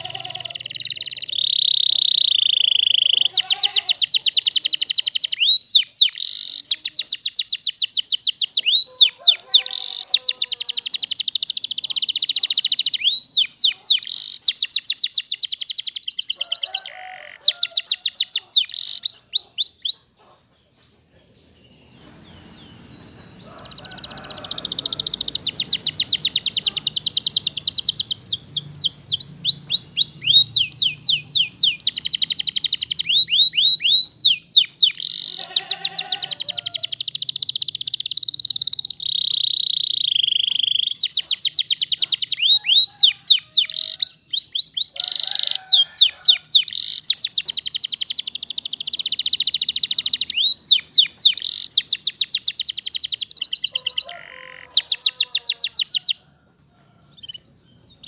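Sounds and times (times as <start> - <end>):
canary singing trills: 0.0 - 56.3, 57.0 - 58.0.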